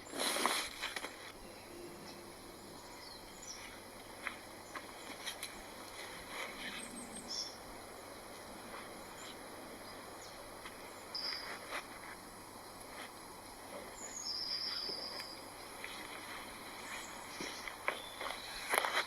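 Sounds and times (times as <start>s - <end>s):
birds chirping: 0.0s - 19.0s
steady outdoor hiss: 0.0s - 19.0s.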